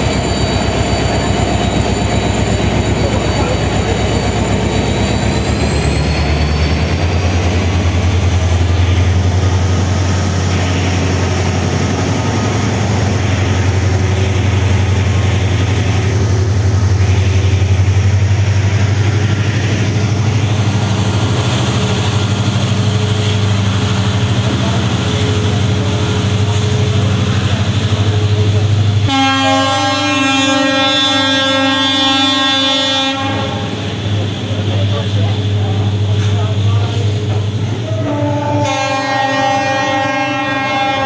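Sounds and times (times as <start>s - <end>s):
diesel locomotive throbbing: 0.0s - 41.0s
train coaches passing: 0.0s - 41.0s.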